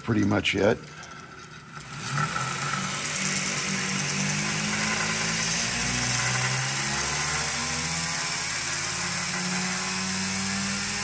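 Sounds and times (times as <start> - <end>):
belt sander running: 1.6 - 11.0.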